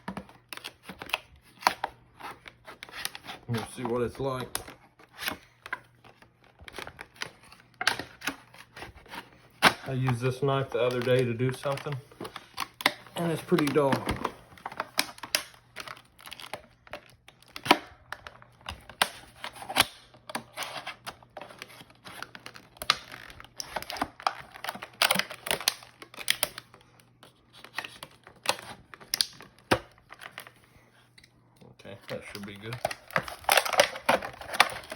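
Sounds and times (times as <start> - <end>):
knife cutting packaging: 0.0 - 26.8, 32.1 - 34.9
packaging crinkling: 0.0 - 30.6, 32.1 - 34.9.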